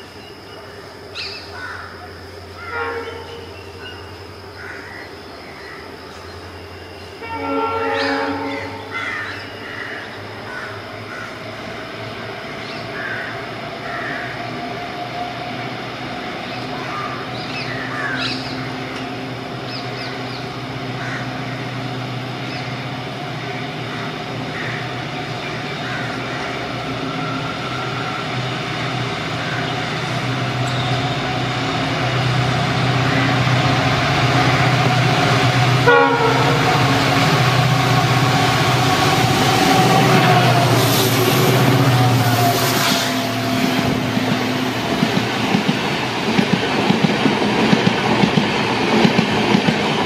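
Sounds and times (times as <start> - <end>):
diesel locomotive engines droning: 0.0 - 50.0.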